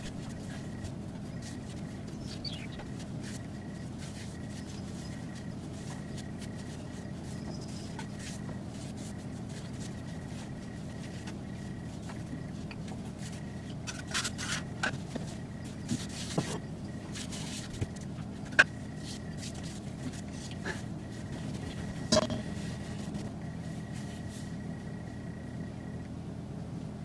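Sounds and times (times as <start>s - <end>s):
hands kneading dough: 0.0s - 24.7s
steady low hum: 0.0s - 27.0s.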